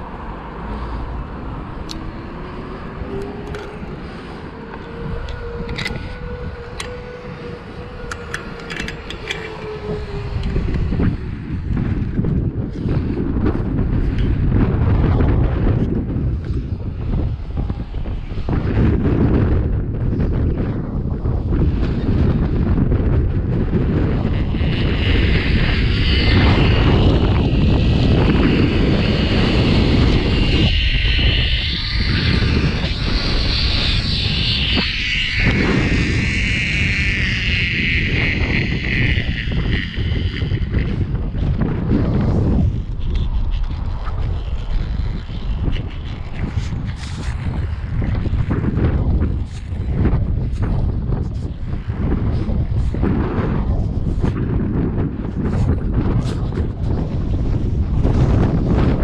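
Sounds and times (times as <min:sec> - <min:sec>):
steady whine: 0:00.0 - 0:59.0
wind rumble on microphone: 0:00.0 - 0:59.0.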